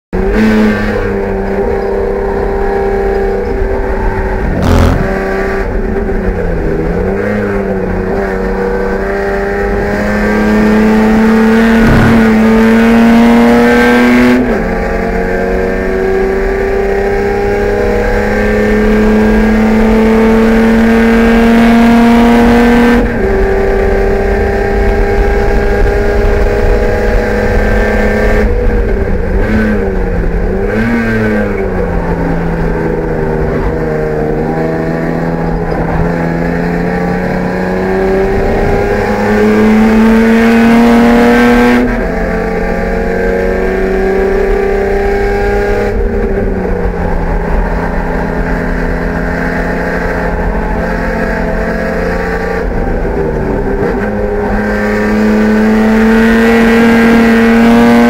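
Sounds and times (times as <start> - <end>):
race car engine revving: 0.2 - 58.0.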